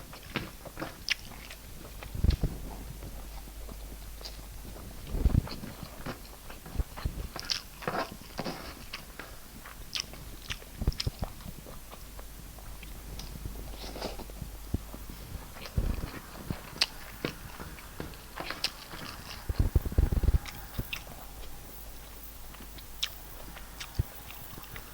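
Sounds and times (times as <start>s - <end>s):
chewing and mouth smacks: 0.1s - 24.9s.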